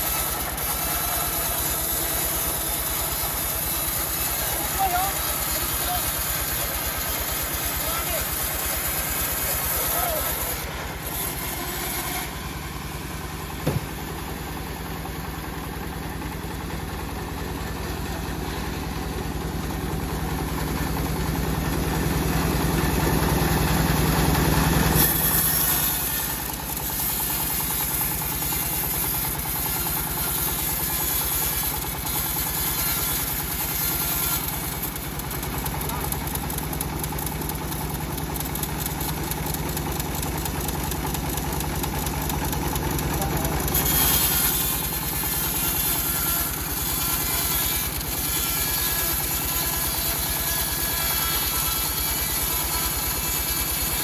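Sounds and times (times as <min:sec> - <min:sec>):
engine-driven bandsaw sawing log: 0:00.0 - 0:54.0.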